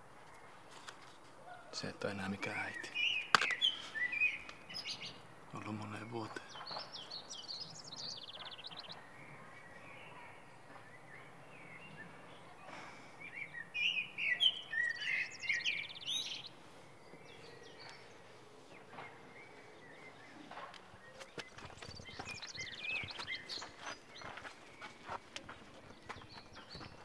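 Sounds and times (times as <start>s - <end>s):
outdoor background hiss: 0.0s - 27.0s
birds chirping and trilling: 1.3s - 27.0s.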